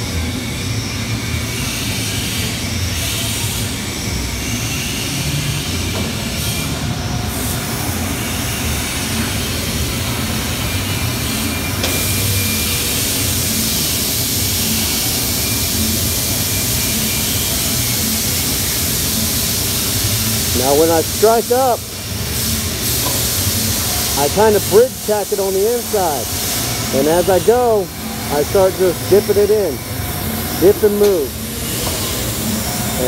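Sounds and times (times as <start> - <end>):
welding arc hissing: 4.5 - 33.0.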